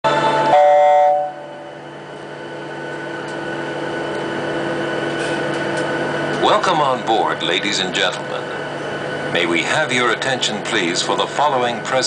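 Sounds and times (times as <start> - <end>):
airliner cabin hum: 0.1 - 12.0.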